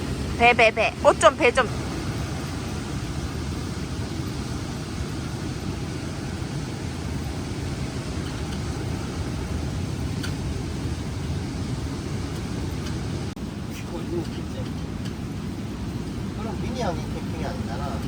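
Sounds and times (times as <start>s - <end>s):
strong wind blowing: 0.0s - 18.0s.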